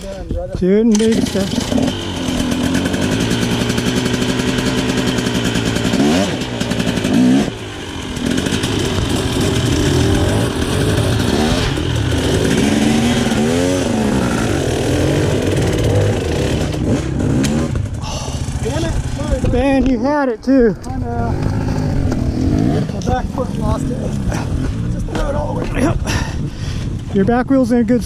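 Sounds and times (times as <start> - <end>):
dirt bike throttle blips: 0.9 - 26.0
dirt bike engine chugging: 1.1 - 26.8.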